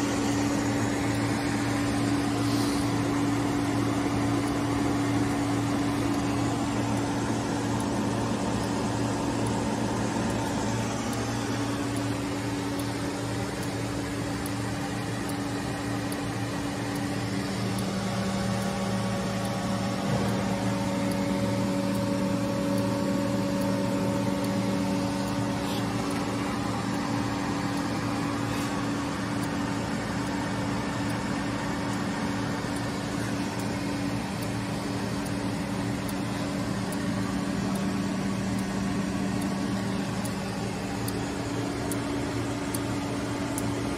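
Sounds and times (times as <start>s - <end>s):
electrical hum and whir: 0.0s - 43.9s.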